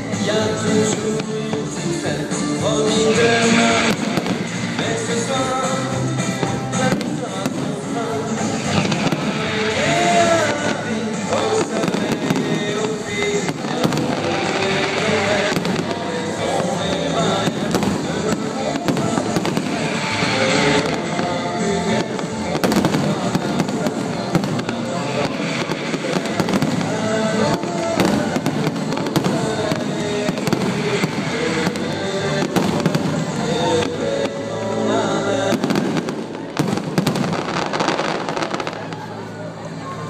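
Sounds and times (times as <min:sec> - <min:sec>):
fireworks crackling and banging: 0:00.0 - 0:39.4.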